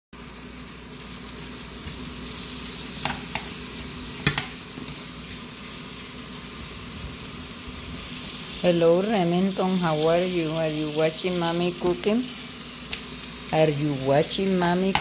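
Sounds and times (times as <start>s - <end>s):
food sizzling in frying pans: 0.2s - 15.0s.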